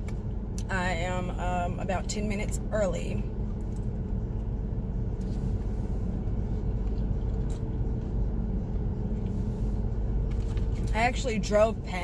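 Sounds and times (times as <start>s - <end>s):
engine and road rumble: 0.0s - 12.0s
faint steady hum: 0.0s - 12.0s.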